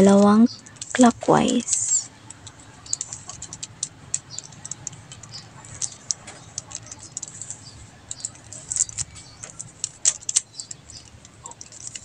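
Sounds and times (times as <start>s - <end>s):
puzzle cube clicking as twisted: 0.0s - 12.0s.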